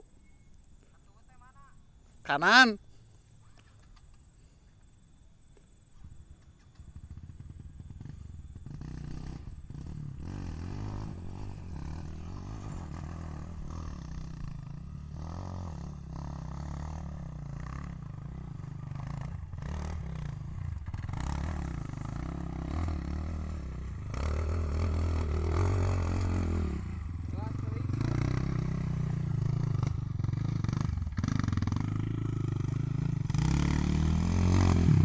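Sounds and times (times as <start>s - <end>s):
motorcycle engine revving: 6.8s - 35.0s.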